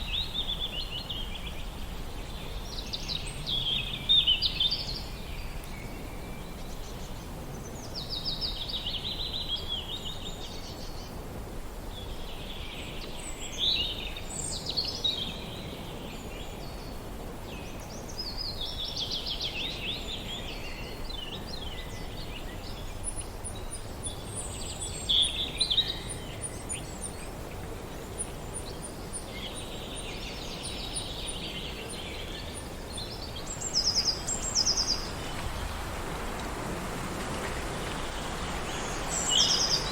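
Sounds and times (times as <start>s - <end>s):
songbirds chirping: 0.0s - 39.9s
wind through a forest: 0.0s - 39.9s.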